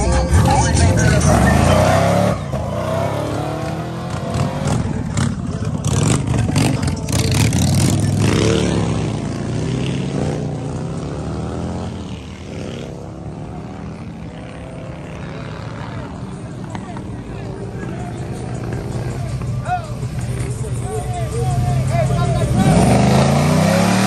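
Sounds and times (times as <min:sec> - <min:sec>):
car engine revving: 0:00.1 - 0:19.2, 0:21.4 - 0:24.0.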